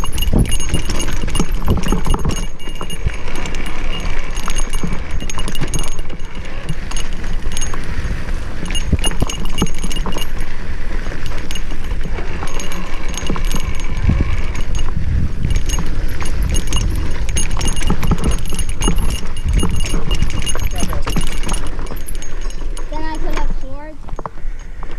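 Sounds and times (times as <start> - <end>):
mountain bike rattling: 0.0 - 24.9
wind buffeting microphone: 0.0 - 24.9.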